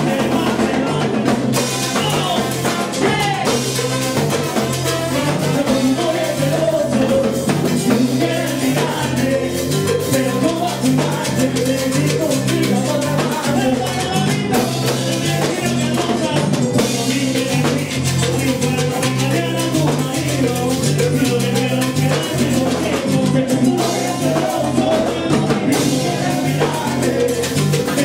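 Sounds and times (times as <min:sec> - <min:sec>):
salsa band playing: 0:00.0 - 0:28.0.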